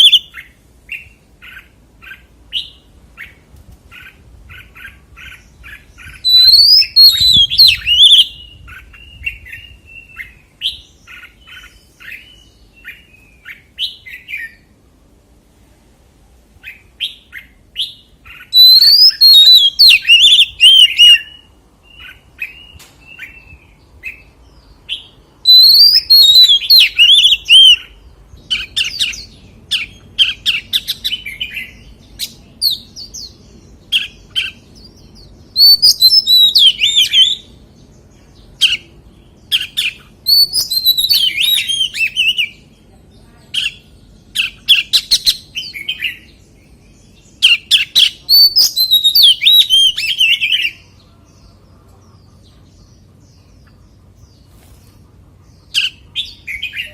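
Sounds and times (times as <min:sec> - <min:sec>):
bird singing whistled notes: 0:00.0 - 0:14.7, 0:16.6 - 0:42.7, 0:43.6 - 0:51.1.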